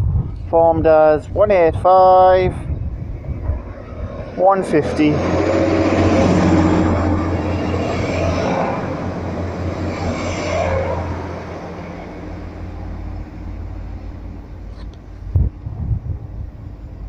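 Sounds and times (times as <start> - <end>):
train diesel engine drone: 0.0 - 17.0.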